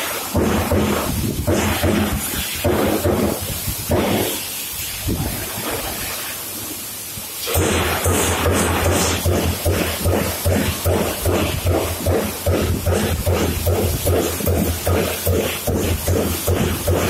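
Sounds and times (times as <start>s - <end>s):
punch press punching sheet metal: 0.2s - 4.4s, 7.4s - 17.0s.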